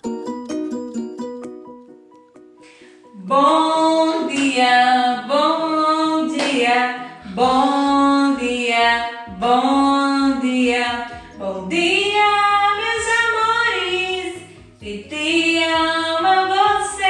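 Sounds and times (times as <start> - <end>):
plucked notes: 0.0 - 17.0
high singing voice: 3.1 - 17.0.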